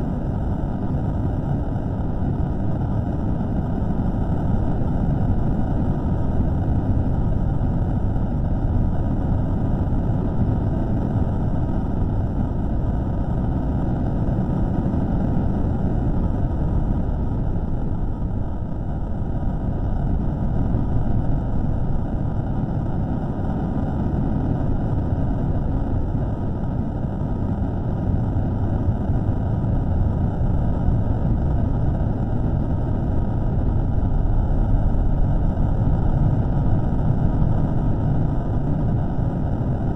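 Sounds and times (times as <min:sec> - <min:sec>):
steady low rumbling: 0:00.0 - 0:39.9.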